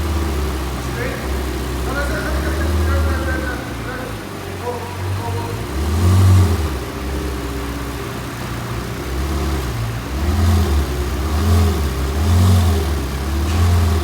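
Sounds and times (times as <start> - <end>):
car engine running: 0.0 - 14.0
engine throttle blips: 0.0 - 14.0.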